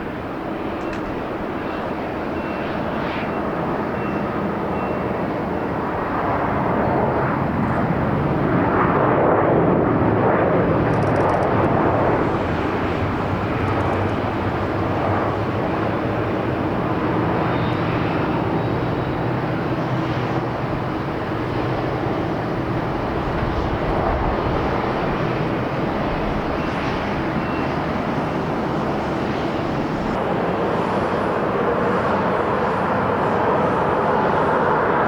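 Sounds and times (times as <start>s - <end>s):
jet airliner engine noise: 0.0s - 35.0s.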